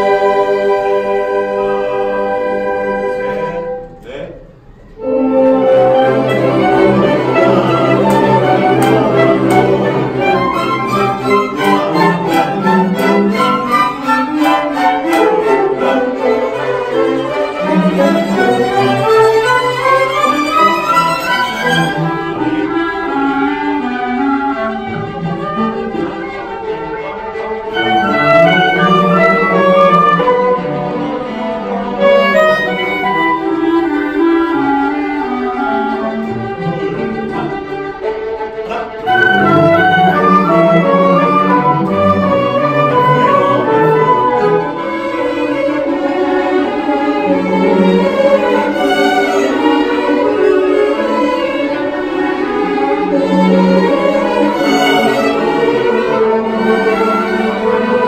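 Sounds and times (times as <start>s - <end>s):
orchestra bowed strings: 0.0s - 58.0s.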